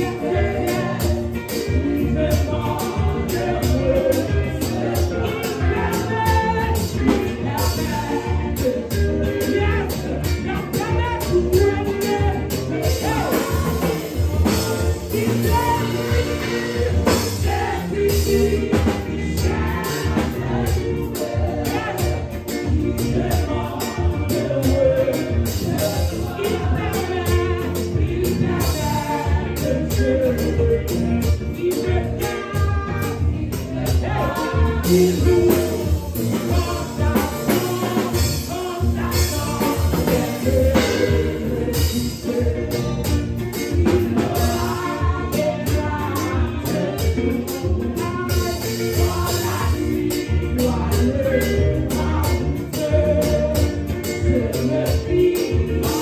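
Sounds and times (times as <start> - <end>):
instrumental accompaniment with beat: 0.0 - 56.0
women singing gospel song: 0.0 - 56.0.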